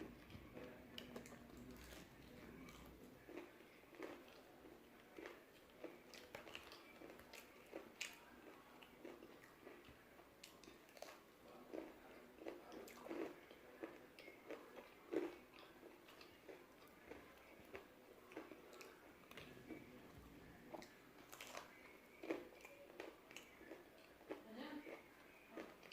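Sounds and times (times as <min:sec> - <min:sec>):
person chewing crispy food: 0:00.2 - 0:20.0, 0:20.6 - 0:25.9.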